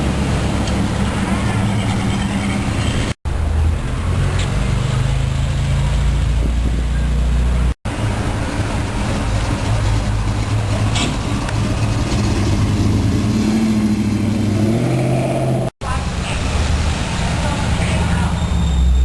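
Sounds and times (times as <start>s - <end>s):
old car engines cruising: 0.0s - 19.0s
street noise: 0.0s - 19.0s.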